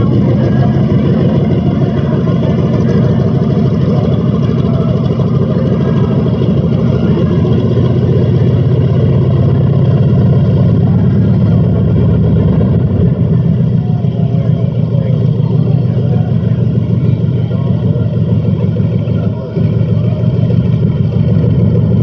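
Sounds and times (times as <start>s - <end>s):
radial aircraft engine pulsing: 0.0s - 22.0s.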